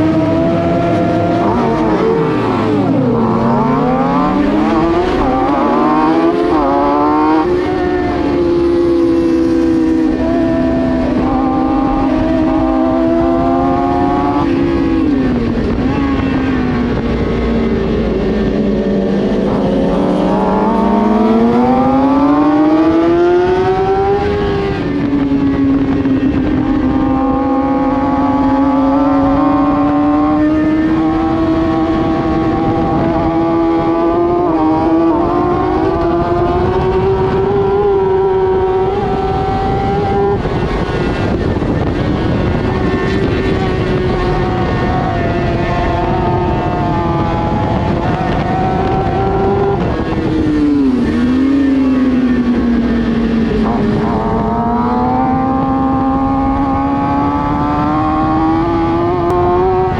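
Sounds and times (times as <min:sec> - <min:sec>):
sportbike engine at high revs: 0:00.0 - 0:59.9.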